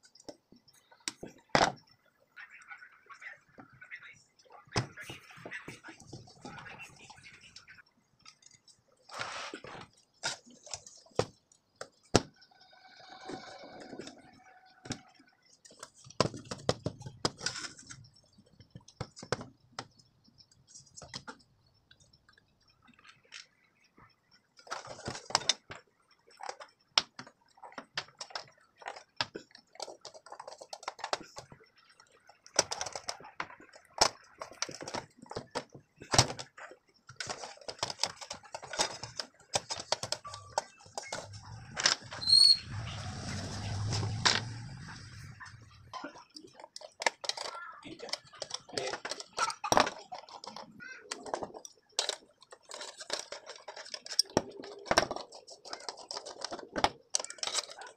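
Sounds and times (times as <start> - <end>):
clicks knocks and scraping of metal: 8.2 - 12.4, 13.2 - 42.4, 43.0 - 57.9.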